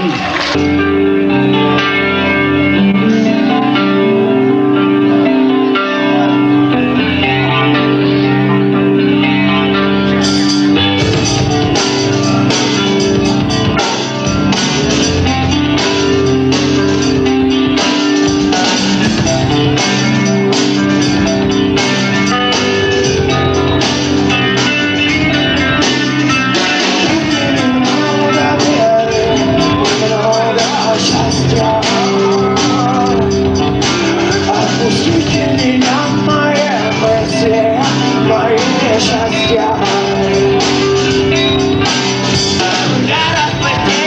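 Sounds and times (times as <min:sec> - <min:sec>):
drums: 0:00.0 - 0:44.0
electric guitar chords: 0:00.0 - 0:44.0.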